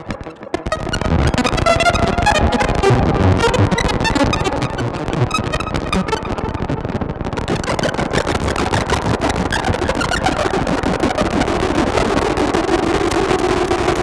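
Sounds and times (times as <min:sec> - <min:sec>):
steady low-mid synth tone: 0:00.0 - 0:11.3
pulsing noisy synthesizer drone: 0:00.6 - 0:14.0.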